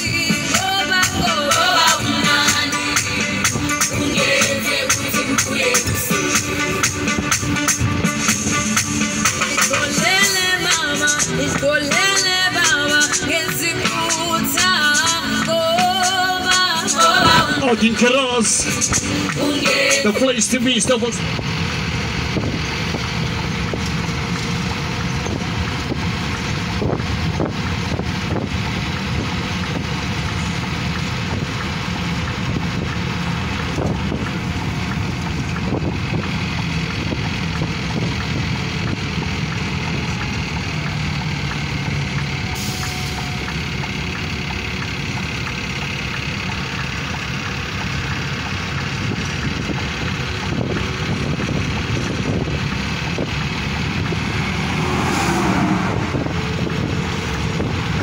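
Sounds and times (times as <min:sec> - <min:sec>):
rushing road noise: 0:00.0 - 0:58.0
vehicle engine and tyre hum: 0:00.0 - 0:58.0.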